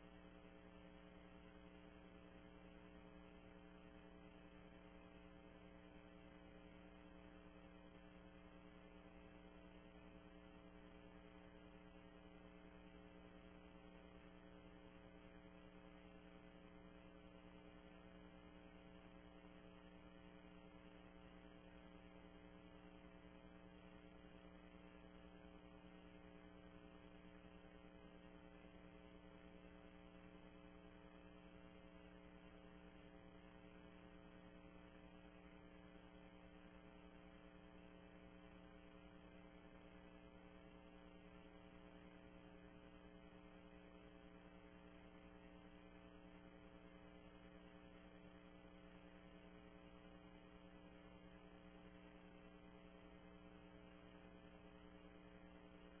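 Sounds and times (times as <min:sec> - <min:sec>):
faint electrical hum with hiss: 0:00.0 - 0:56.0.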